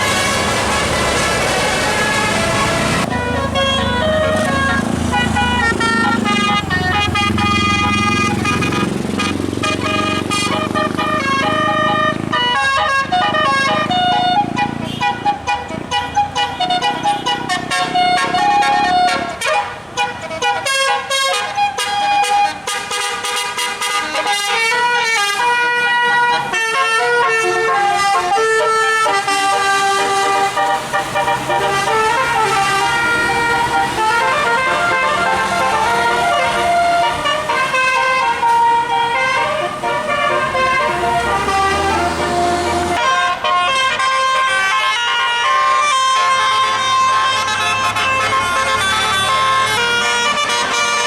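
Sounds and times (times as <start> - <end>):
multi-tone bus horn melody: 0.0 - 51.0.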